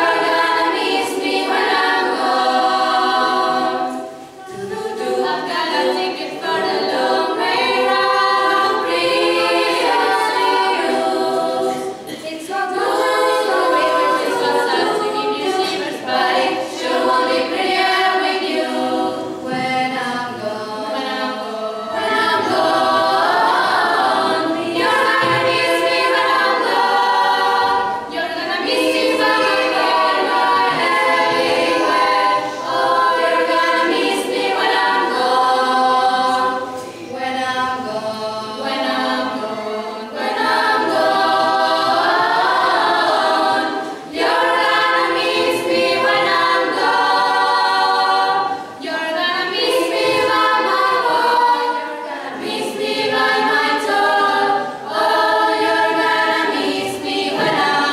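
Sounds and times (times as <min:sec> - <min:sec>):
girls' choir singing a cappella: 0:00.0 - 0:57.9.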